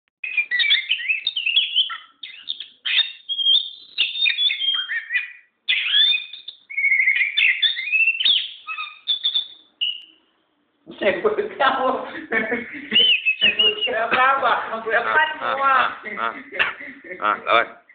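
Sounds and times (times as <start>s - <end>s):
bird singing: 0.2s - 10.3s, 12.6s - 17.9s.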